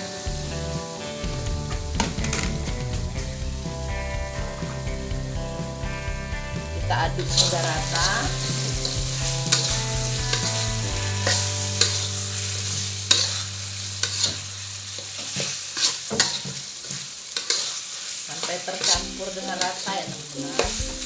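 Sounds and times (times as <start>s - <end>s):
spatula scraping and knocking wok: 0.0s - 6.0s, 7.0s - 21.0s
food sizzling in oil: 0.0s - 21.0s.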